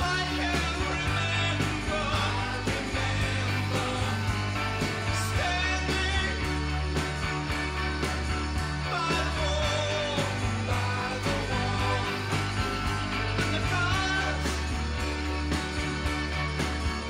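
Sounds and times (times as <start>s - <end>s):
song with singing over beat: 0.0s - 17.0s.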